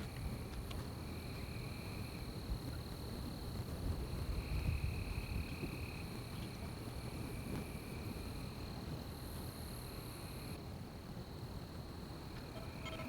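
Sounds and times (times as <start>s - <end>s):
high insect trill: 0.0s - 10.6s, 11.6s - 13.0s
lower insect trill: 0.0s - 10.6s, 12.2s - 13.0s.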